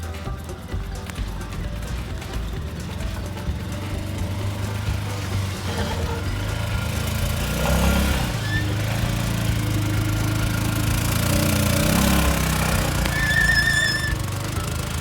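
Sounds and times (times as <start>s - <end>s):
background music: 0.0s - 15.0s
utility vehicle engine under load: 0.0s - 15.0s.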